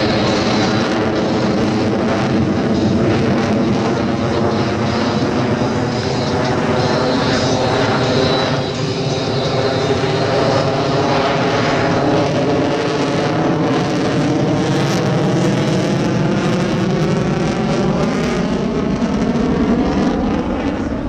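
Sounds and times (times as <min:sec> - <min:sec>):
jet engines roaring overhead: 0:00.0 - 0:21.0.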